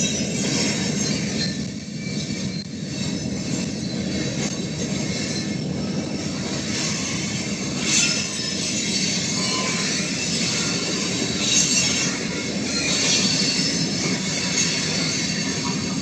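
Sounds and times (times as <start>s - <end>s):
high wheel squeal: 0.0s - 16.0s
railroad cars rolling past: 0.0s - 16.0s.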